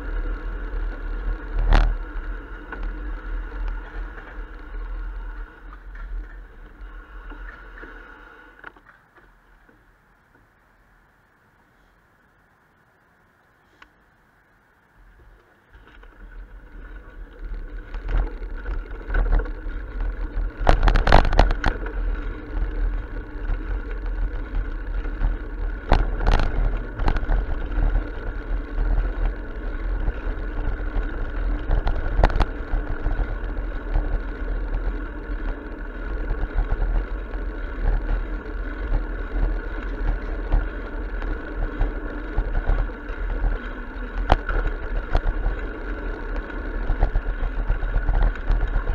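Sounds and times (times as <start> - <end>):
bicycle rattles from bumps: 0.0 - 9.9, 15.2 - 48.9
wind and road rumble: 0.0 - 48.9.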